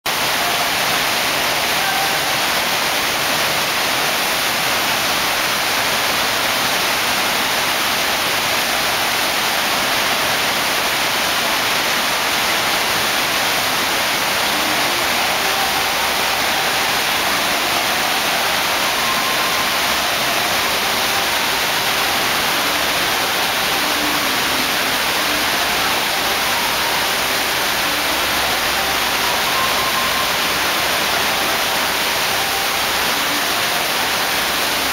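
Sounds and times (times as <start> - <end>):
rushing water jet: 0.1 - 34.9.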